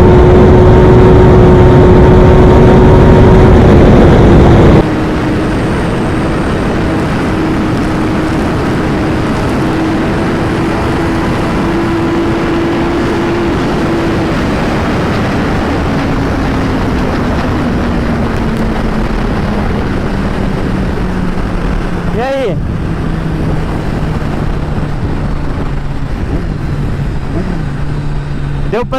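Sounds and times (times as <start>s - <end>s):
motorcycle engine running: 0.0s - 28.9s
wind and road noise: 0.0s - 28.9s.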